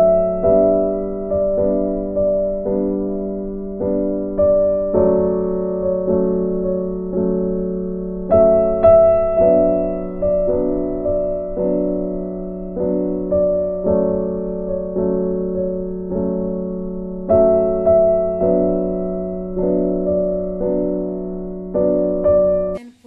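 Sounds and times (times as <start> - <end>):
piano music: 0.0 - 22.9.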